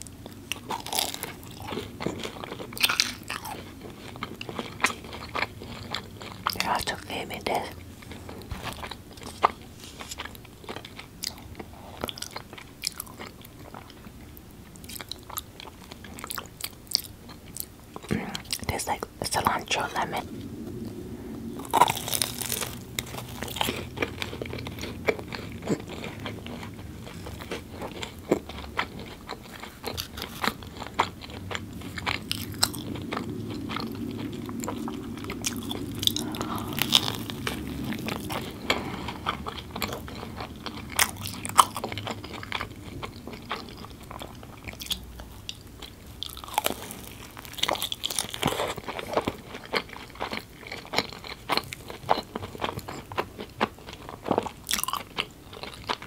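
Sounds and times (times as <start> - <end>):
crunching and chewing food: 0.0 - 56.0.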